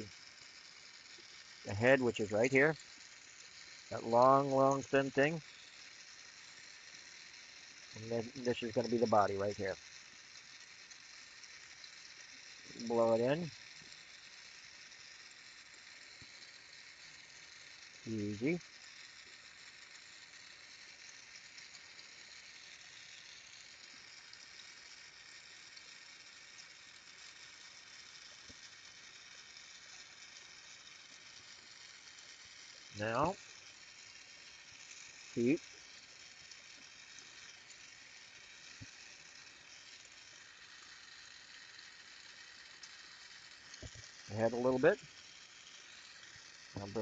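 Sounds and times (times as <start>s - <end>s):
torch flame hissing: 0.0s - 47.0s.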